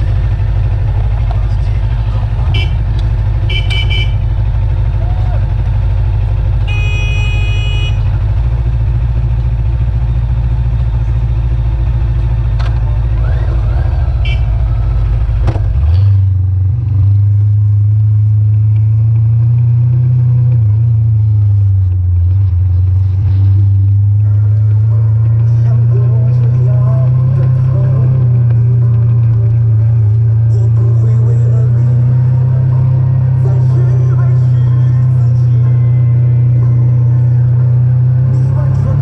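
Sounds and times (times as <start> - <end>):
motorcycle engine rumbling: 0.0 - 39.0.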